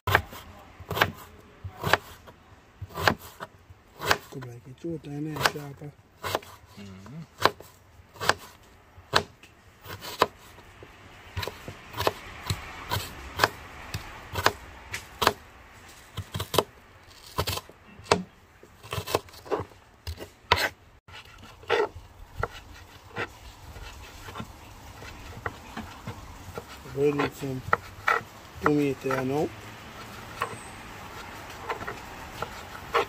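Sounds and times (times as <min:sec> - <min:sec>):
knife slicing vegetables: 0:00.1 - 0:04.4, 0:05.2 - 0:10.6, 0:16.1 - 0:33.0.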